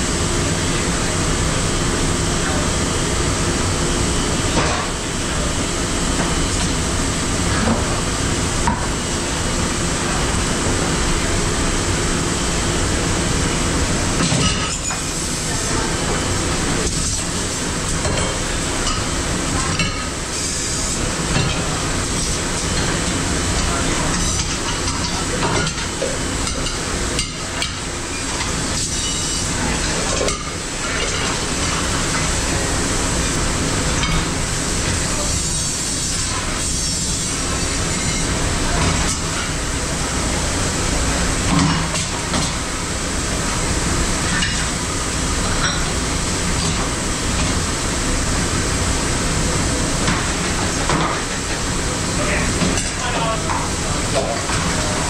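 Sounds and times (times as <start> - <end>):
dishwashing machinery running: 0.0 - 55.0.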